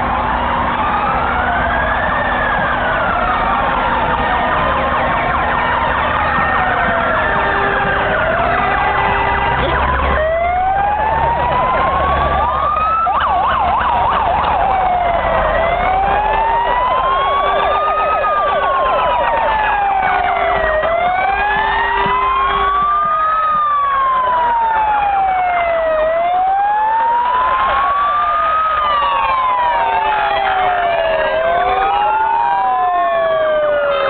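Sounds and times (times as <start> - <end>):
low rumble of engines: 0.0 - 34.0
sirens wailing: 0.0 - 34.0.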